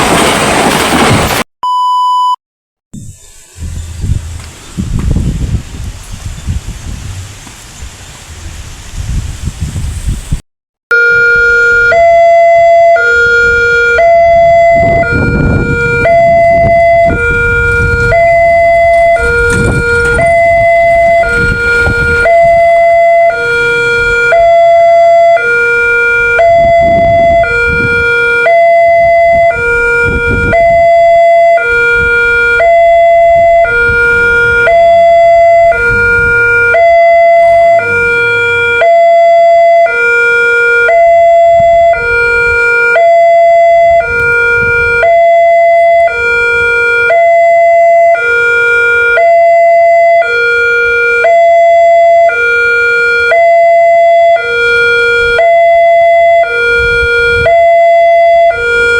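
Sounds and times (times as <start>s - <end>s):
level crossing warning siren: 10.9s - 58.9s.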